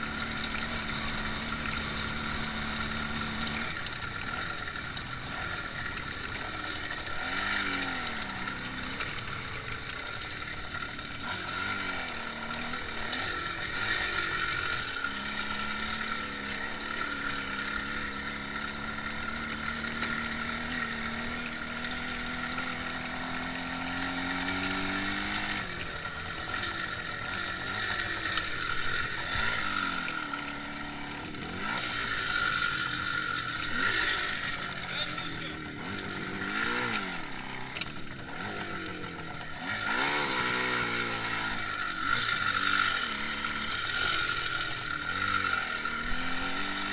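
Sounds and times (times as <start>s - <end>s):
motorcycle engine revving: 0.0s - 46.9s
rattly mechanical clatter: 0.0s - 46.9s.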